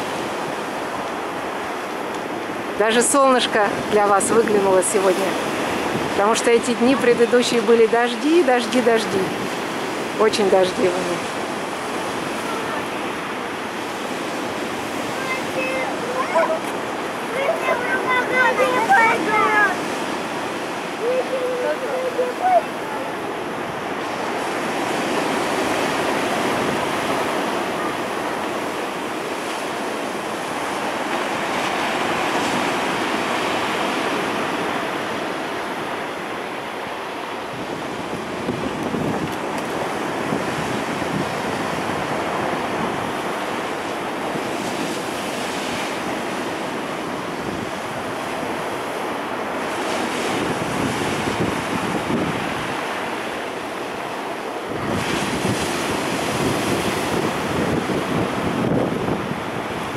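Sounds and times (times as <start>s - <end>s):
wind gusting on microphone: 0.0s - 59.9s.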